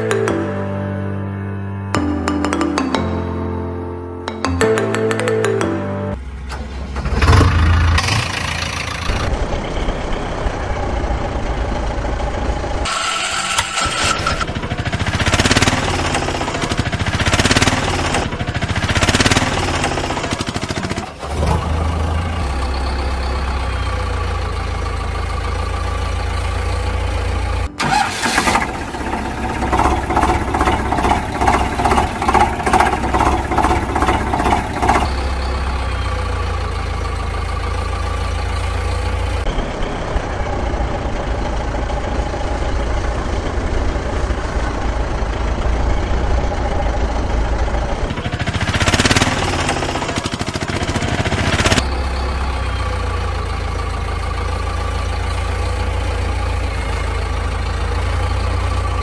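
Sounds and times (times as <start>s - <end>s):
motor vehicle engine running: 4.4s - 59.0s
engine chugging pulses: 6.2s - 59.0s.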